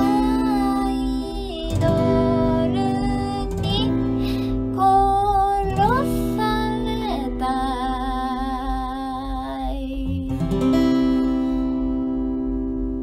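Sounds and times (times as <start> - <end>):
woman singing wavering notes: 0.0 - 11.8
strummed acoustic guitar: 0.0 - 13.0.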